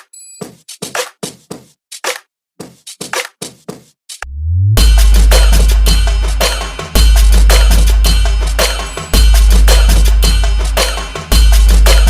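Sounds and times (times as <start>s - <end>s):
drum machine trap beat: 0.0s - 12.0s.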